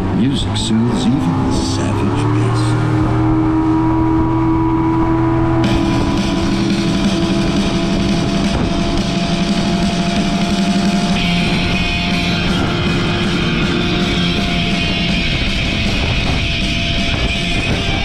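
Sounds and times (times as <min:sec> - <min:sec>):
boat motor droning: 0:00.0 - 0:18.0
rock music with guitar: 0:01.0 - 0:18.0.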